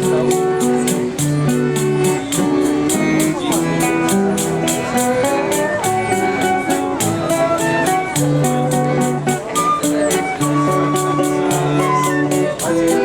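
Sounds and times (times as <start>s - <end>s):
high percussion beat: 0.0s - 13.0s
plucked string music: 0.0s - 13.0s.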